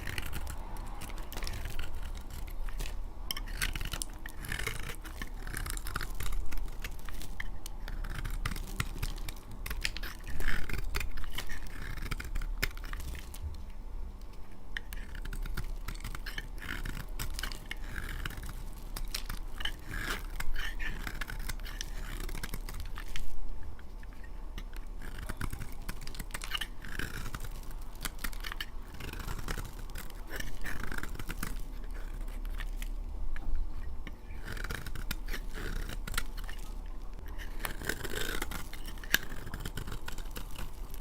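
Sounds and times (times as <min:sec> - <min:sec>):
blade cutting dry soap: 0:00.0 - 0:13.5, 0:14.2 - 0:41.0.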